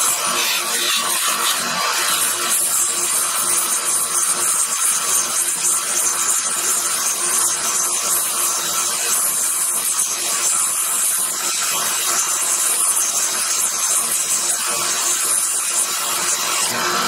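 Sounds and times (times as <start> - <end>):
belt sander grinding metal: 0.0 - 17.0.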